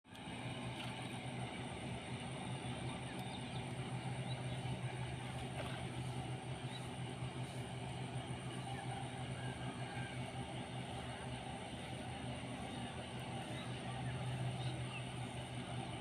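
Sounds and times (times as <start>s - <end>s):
low motor hum: 0.0s - 16.0s
high-pitched whine: 0.1s - 16.0s.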